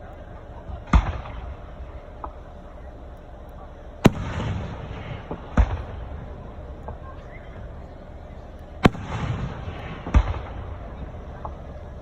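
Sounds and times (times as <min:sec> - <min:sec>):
firework booms rumbling: 0:00.0 - 0:02.8, 0:03.8 - 0:12.0
faint firework pops: 0:00.6 - 0:02.7, 0:03.5 - 0:12.0.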